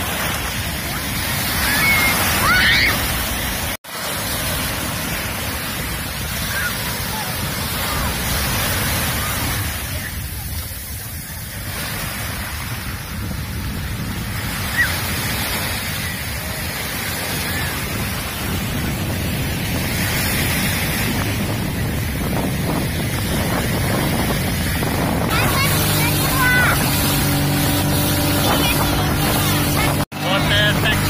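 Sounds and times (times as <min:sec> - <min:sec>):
small waves breaking on sand: 0:00.0 - 0:31.0
wind buffeting microphone: 0:04.5 - 0:30.0.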